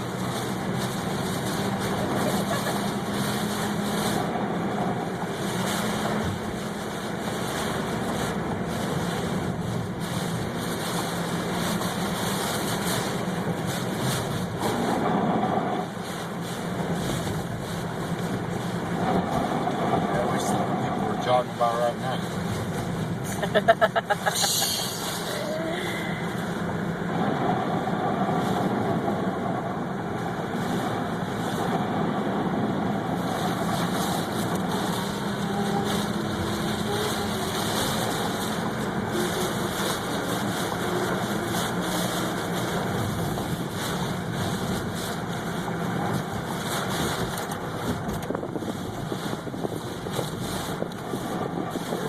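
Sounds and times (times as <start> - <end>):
car engine from inside: 0.0 - 52.0
road noise: 0.0 - 52.0.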